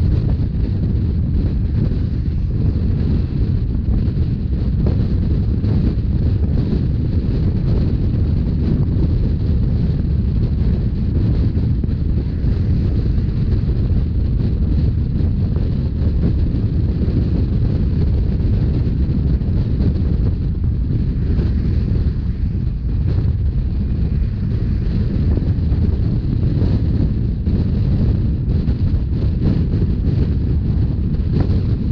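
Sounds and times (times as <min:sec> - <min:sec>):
train wheels rumbling on rails: 0:00.0 - 0:31.9
wind buffeting microphone: 0:00.0 - 0:31.9.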